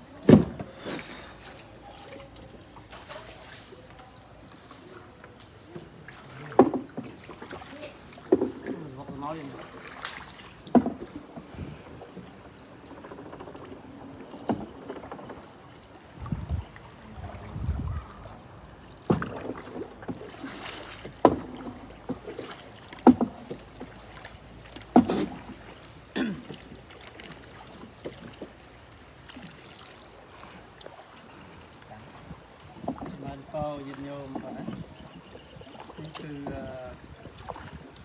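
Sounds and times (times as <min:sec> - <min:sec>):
low wash of water: 0:00.0 - 0:38.0
water splashing against boat hull: 0:00.0 - 0:38.0.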